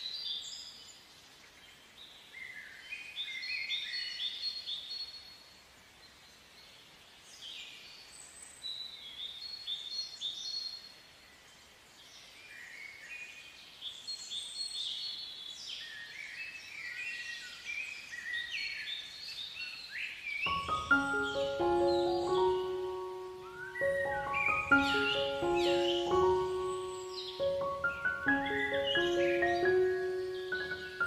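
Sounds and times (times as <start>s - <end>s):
small birds singing: 0.0s - 31.0s.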